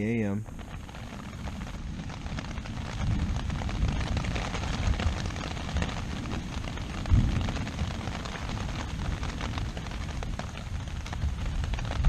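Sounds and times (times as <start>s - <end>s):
rain pattering: 0.0s - 12.0s
thunder rumbling: 0.0s - 12.0s.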